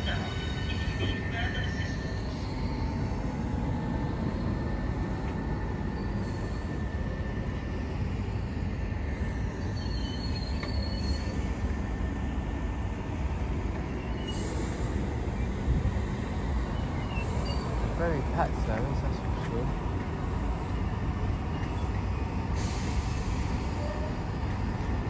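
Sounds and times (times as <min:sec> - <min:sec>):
train low rumble: 0:00.0 - 0:25.0.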